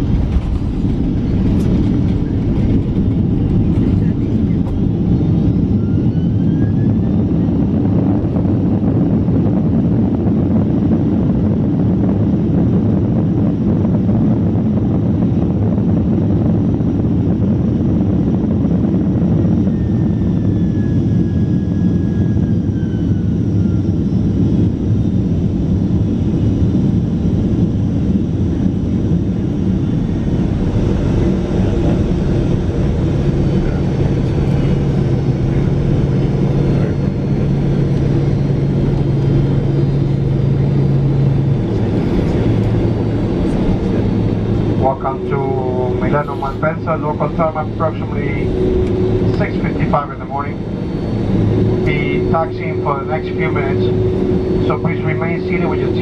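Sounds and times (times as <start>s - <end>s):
aircraft cabin engine rumble: 0.0s - 56.0s
faint gliding whine: 0.0s - 56.0s
low hum: 0.0s - 56.0s.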